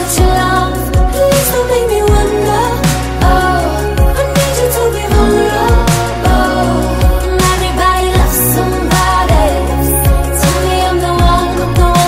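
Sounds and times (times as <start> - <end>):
pop song with deep kick drum: 0.0 - 12.0.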